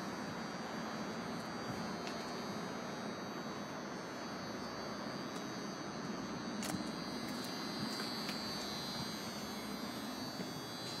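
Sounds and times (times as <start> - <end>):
background hiss and hum: 0.0 - 11.0
faint high-pitched whine: 0.0 - 11.0.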